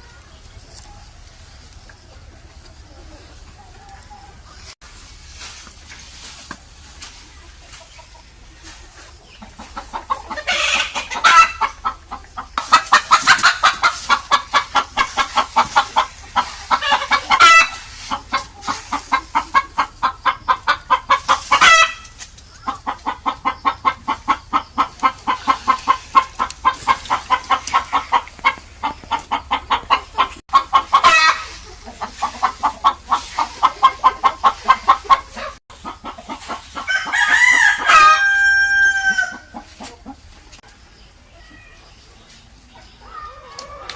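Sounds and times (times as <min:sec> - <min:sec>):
chickens clucking: 0:00.0 - 0:43.9
drawn-out falling chicken call: 0:02.2 - 0:40.6, 0:43.0 - 0:43.9.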